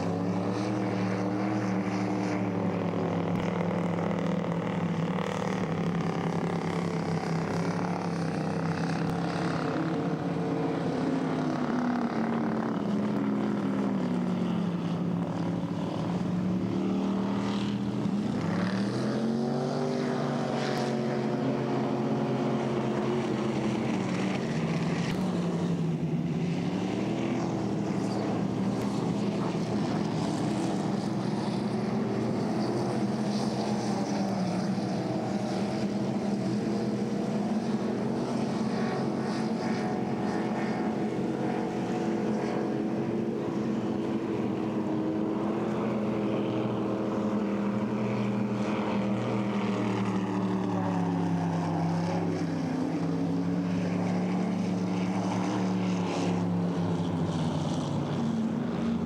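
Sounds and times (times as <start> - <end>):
racing boat engines droning: 0.0 - 59.0.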